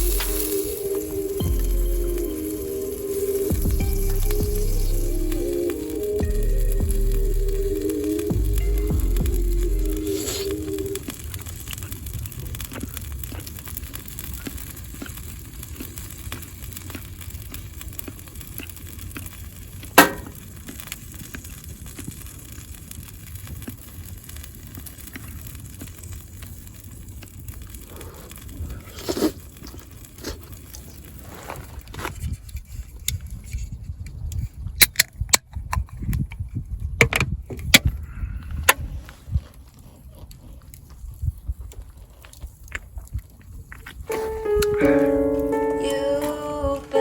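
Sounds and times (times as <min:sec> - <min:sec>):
fire crackling and popping: 0:00.0 - 0:47.0.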